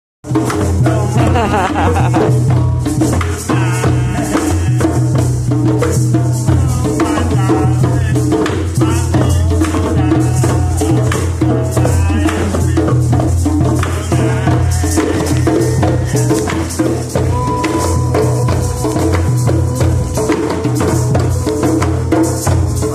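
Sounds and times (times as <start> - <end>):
group hand drumming: 0.2 - 22.9
man singing: 0.4 - 22.9.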